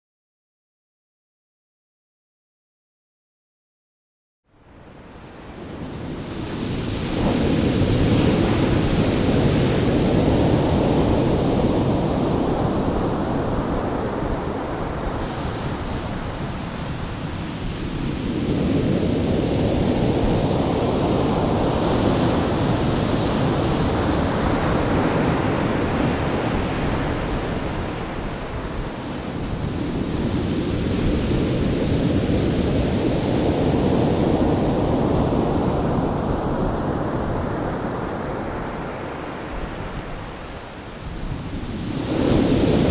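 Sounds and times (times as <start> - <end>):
ocean waves breaking on shore: 4.7 - 42.9.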